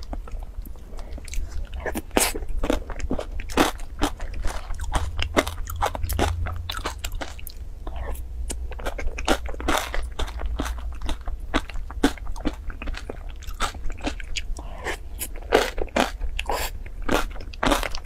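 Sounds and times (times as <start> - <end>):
chewing crunchy cereal: 0.0 - 18.0
low steady hum: 0.0 - 18.0.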